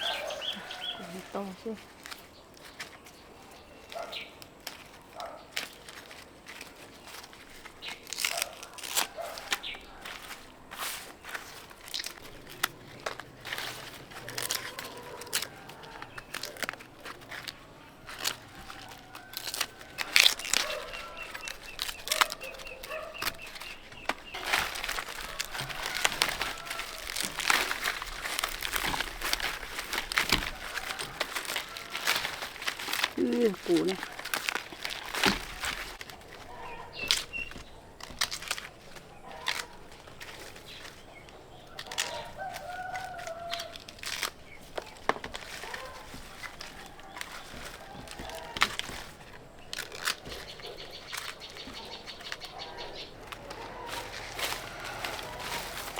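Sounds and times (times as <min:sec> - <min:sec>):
rustling and crinkling leaves: 0:00.0 - 0:55.9.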